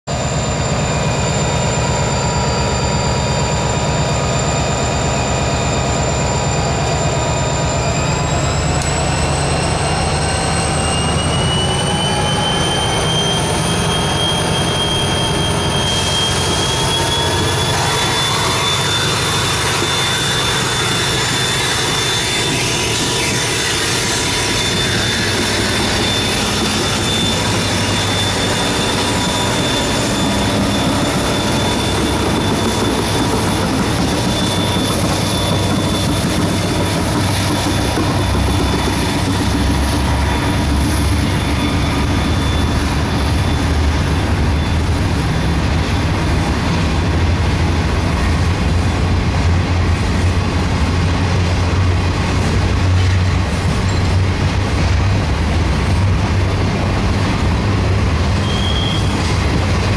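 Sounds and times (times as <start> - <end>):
diesel locomotive engines running hard: 0.0 - 59.9.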